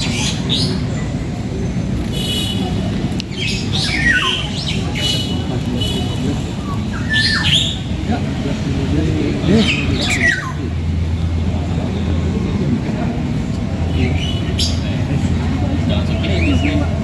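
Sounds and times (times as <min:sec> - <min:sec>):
caged birds calling: 0:00.0 - 0:17.0.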